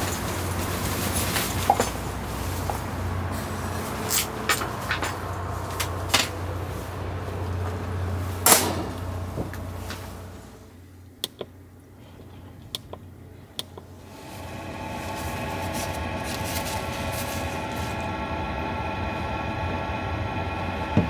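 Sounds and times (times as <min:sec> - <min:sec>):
mechanical hum with held tones: 0:00.0 - 0:21.0
steady low rumble: 0:00.0 - 0:21.0.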